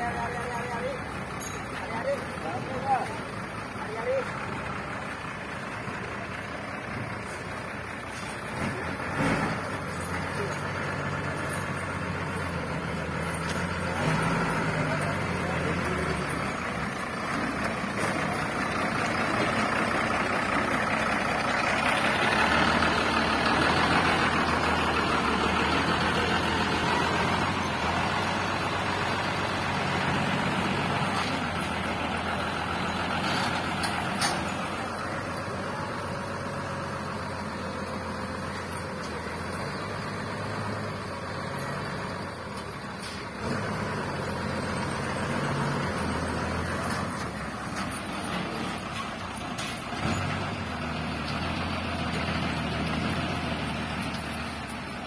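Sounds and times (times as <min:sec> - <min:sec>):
lorry diesel engine running: 0:00.0 - 0:55.0.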